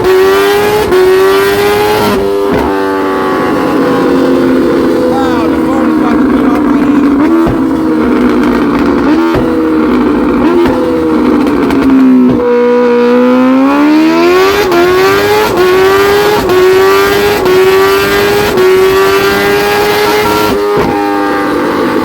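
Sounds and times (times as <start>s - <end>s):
motorcycle engine revving on dyno: 0.0s - 22.0s.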